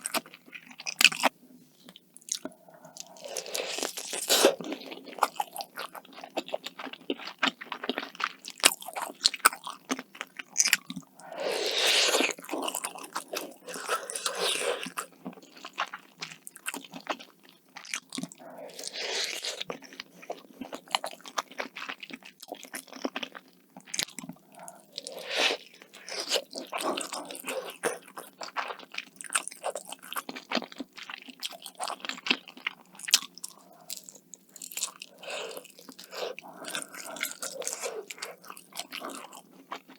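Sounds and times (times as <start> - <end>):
crunchy bites and chewing: 0.0 - 1.3, 1.9 - 39.9.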